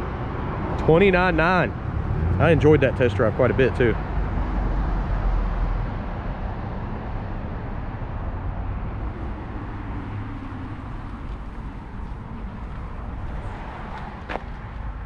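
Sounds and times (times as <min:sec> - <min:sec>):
road traffic rumbling: 0:00.0 - 0:15.0.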